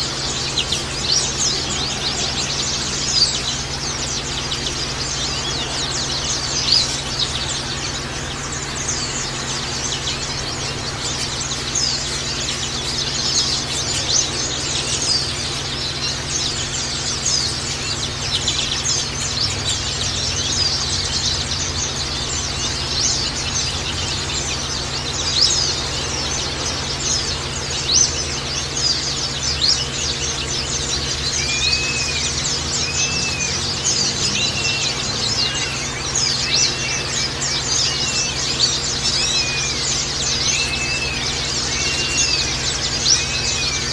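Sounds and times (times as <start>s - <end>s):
birds chirping: 0.0s - 43.9s
lower arching bird calls: 0.0s - 43.9s.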